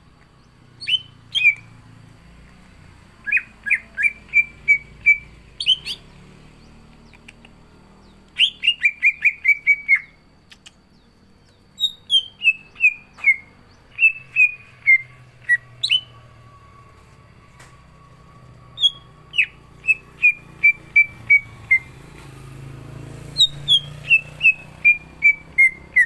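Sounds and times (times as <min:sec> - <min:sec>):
bird whistling song: 0:00.3 - 0:26.0.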